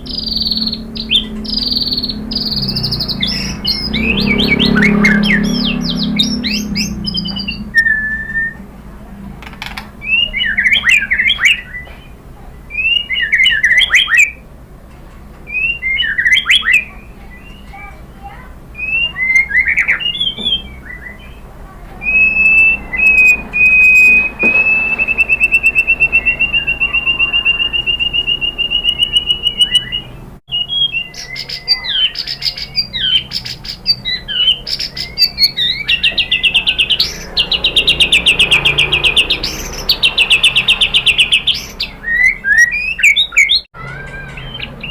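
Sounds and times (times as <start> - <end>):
fast bird trill: 0.0 - 8.6, 10.0 - 14.4, 15.5 - 21.4, 22.0 - 44.9
songbird singing whistled phrases: 0.0 - 8.7, 10.0 - 14.4, 15.5 - 21.4, 22.0 - 44.9.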